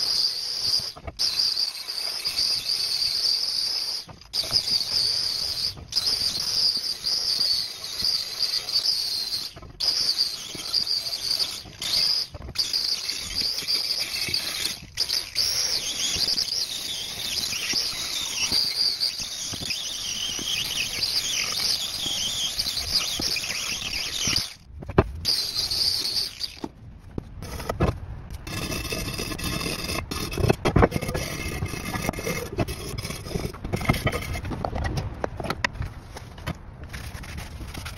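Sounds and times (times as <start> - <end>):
angle grinder on metal: 0.0 - 24.6, 28.5 - 34.5.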